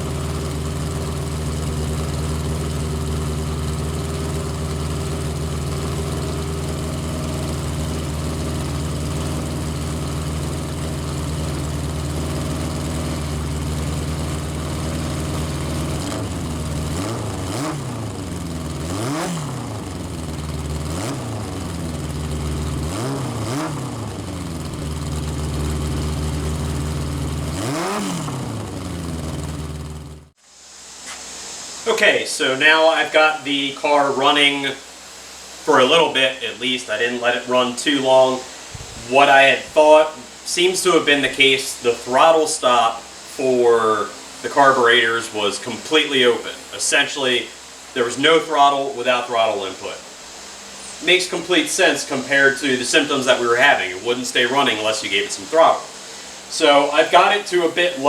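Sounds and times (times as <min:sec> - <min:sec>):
motorcycle engine idling and revving: 0:00.0 - 0:30.4, 0:34.8 - 0:58.0.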